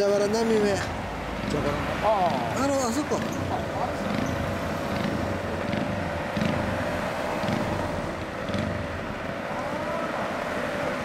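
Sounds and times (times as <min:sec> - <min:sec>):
small motorbike engines idling: 0:00.4 - 0:10.3.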